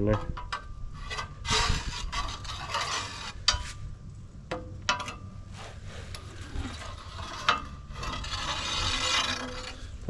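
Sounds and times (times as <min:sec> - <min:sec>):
ramrod scraping in steel bore: 0:00.0 - 0:04.0, 0:04.8 - 0:10.0.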